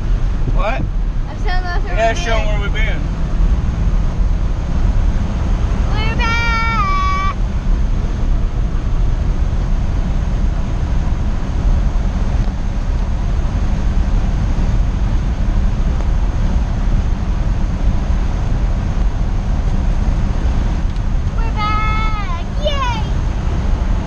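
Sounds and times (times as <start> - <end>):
engine and tyre rumble: 0.0 - 24.0.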